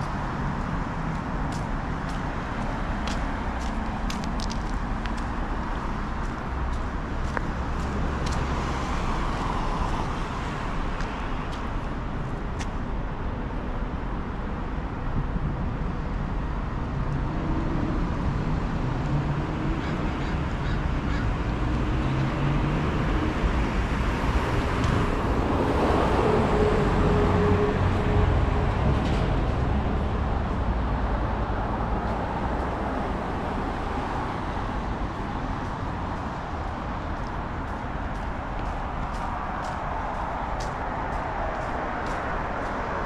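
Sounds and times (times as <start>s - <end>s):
cars and buses passing: 0.0s - 43.0s.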